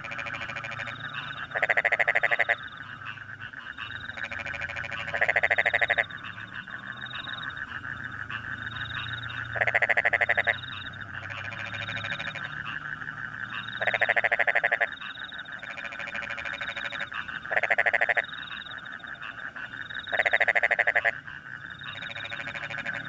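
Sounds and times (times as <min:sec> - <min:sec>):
crickets chirping: 0:00.0 - 0:23.0
frog chorus: 0:00.0 - 0:23.0
frog croaking trill: 0:00.0 - 0:23.0.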